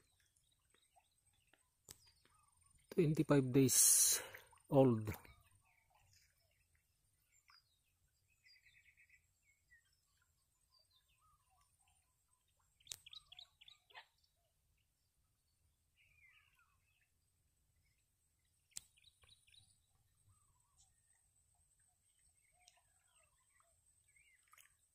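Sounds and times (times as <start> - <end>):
faint bird chirps: 0.0 - 24.9.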